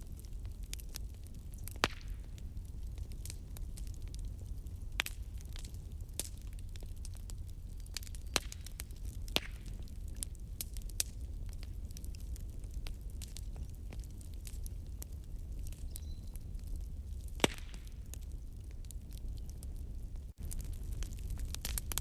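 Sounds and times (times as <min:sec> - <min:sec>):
burning wood popping: 0:00.0 - 0:22.0
wood fire crackling: 0:00.0 - 0:22.0.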